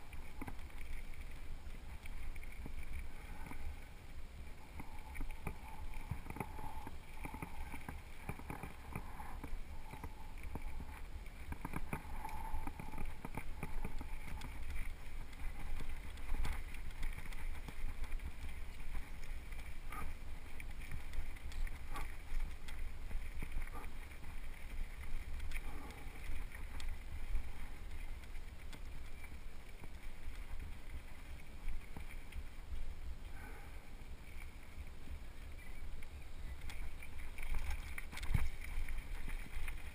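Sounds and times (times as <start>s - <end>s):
bike clicking and rattling over stones: 0.0s - 39.9s
bike tyre noise on gravel: 0.0s - 39.9s
wind rumbling on microphone: 0.0s - 39.9s.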